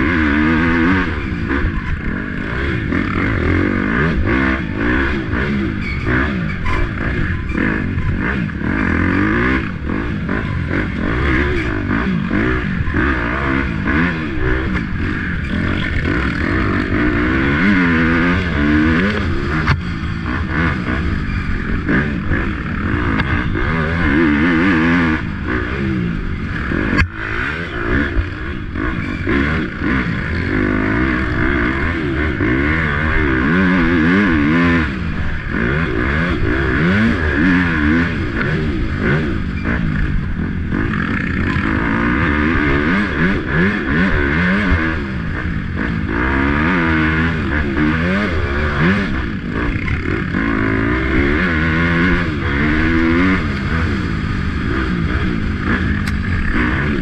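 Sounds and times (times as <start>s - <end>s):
dirt bike engine revving: 0.0s - 57.0s
steady rushing noise: 6.4s - 57.0s.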